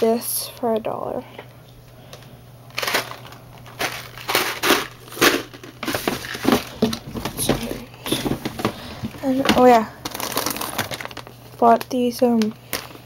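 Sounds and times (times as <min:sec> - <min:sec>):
plastic packaging crinkling: 0:02.1 - 0:13.0.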